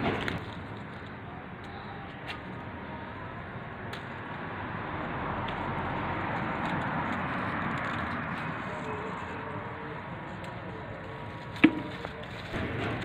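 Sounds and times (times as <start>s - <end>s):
leaves rustling: 0.0s - 12.7s.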